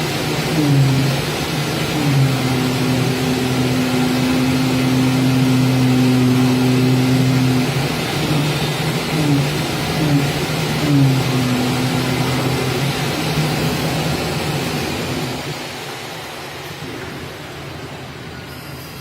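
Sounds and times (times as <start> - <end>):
cutting machine motor hum: 0.0 - 18.2
machine hiss: 0.0 - 19.0.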